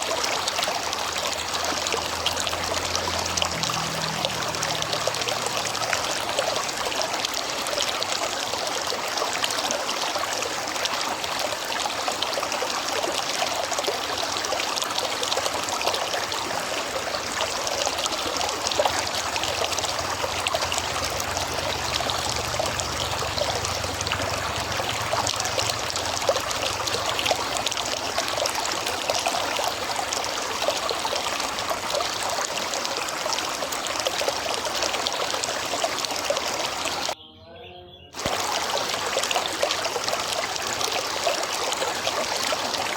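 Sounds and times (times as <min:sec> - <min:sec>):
river water babbling: 0:00.0 - 0:37.2, 0:38.2 - 0:42.9.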